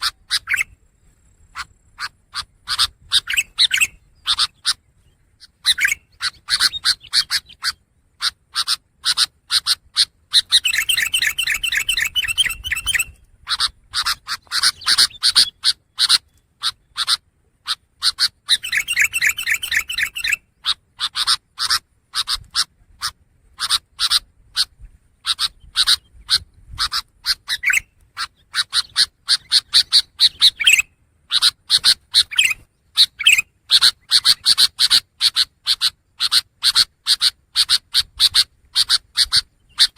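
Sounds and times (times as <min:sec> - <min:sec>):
bird singing sharp chips: 0:00.0 - 0:22.5, 0:25.2 - 0:39.9
fast rattling bird trill: 0:00.0 - 0:39.9.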